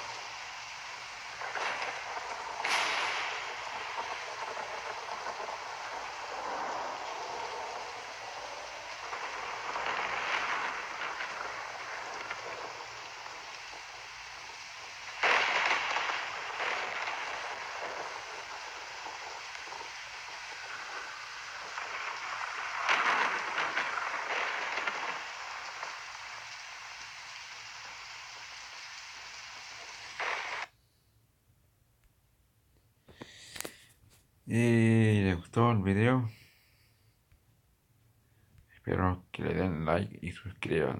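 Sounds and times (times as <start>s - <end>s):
rain hissing: 0.0s - 30.8s, 33.1s - 37.2s, 38.2s - 40.9s.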